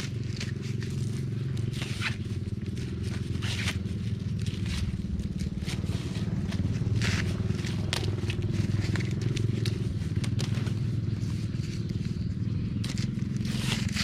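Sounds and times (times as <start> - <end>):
dry corn leaves rustling: 0.0 - 14.0
engine hum: 0.0 - 14.0.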